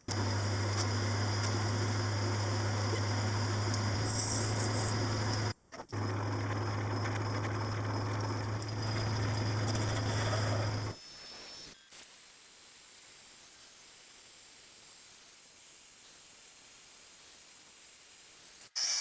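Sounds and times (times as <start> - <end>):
machine tool humming and whining: 0.0 - 19.0.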